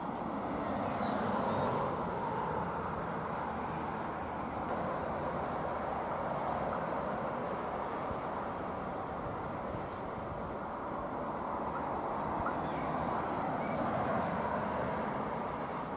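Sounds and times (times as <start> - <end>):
distant vehicle rumble: 0.0 - 15.9.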